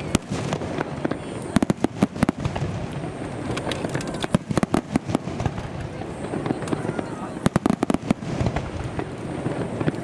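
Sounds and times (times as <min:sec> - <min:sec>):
fireworks bangs and crackles: 0:00.0 - 0:10.0
rumble of firework bursts: 0:00.0 - 0:10.0.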